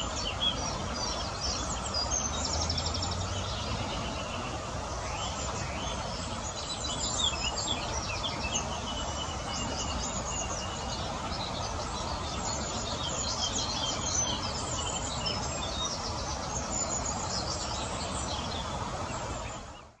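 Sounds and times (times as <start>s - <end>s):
flowing river water: 0.0s - 20.0s.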